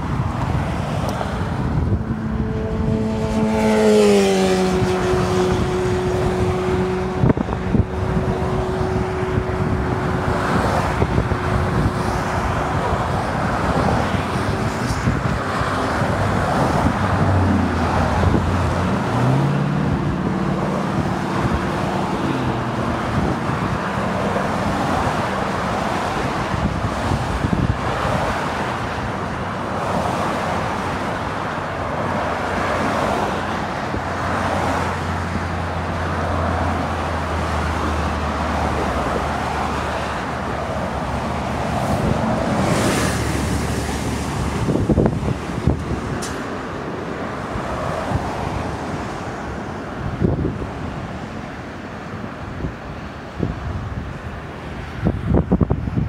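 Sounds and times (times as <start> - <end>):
freeway traffic passing: 0.0 - 56.0
vehicle hum passing: 0.0 - 56.0.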